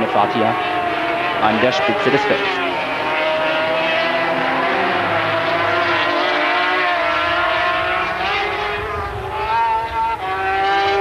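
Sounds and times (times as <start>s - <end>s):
racing engines at high revs: 0.0s - 11.0s.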